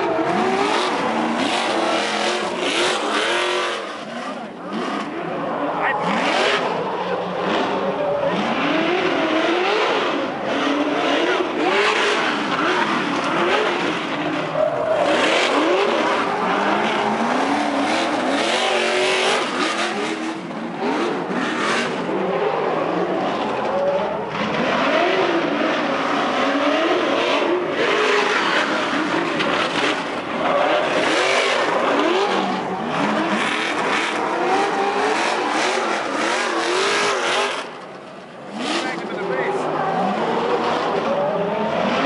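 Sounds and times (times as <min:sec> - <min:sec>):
heavy rush of noise: 0:00.0 - 0:42.0
truck engines revving: 0:00.0 - 0:42.0.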